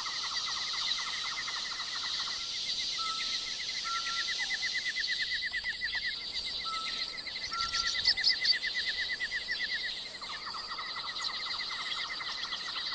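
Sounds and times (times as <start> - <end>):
bird trilling chirps: 0.0 - 12.9
lower bird trill: 0.0 - 12.9
steady high hiss: 0.0 - 12.9.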